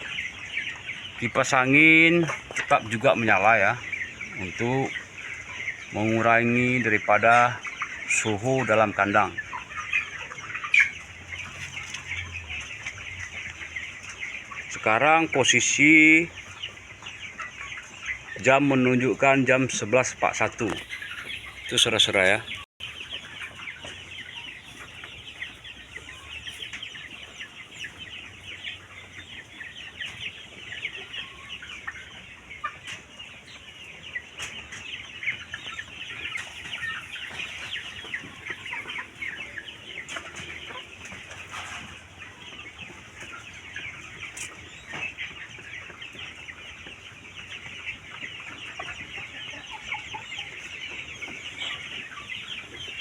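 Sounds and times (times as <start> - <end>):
chickens clucking and peeping: 0.0 - 53.0.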